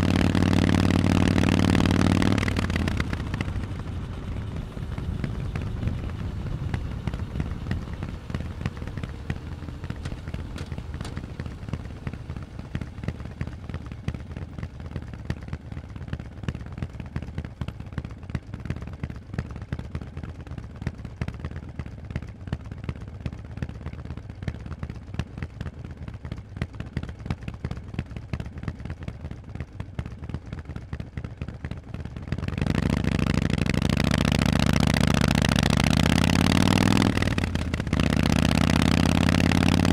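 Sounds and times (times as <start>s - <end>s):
motorcycle engine exhaust pulses: 0.0s - 39.9s.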